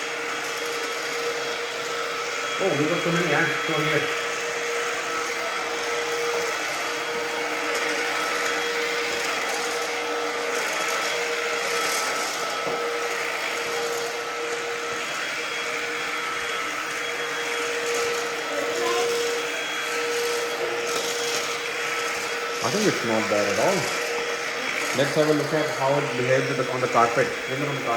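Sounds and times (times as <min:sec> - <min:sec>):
vacuum cleaner motor whine: 0:00.0 - 0:27.9.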